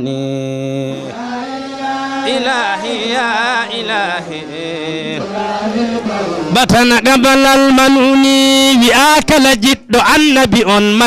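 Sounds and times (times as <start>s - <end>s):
man chanting into a microphone: 0.0s - 1.1s, 2.2s - 11.0s.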